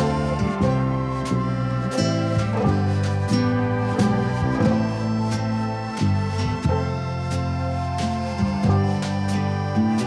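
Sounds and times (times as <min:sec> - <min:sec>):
instrumental guitar music: 0:00.0 - 0:10.0.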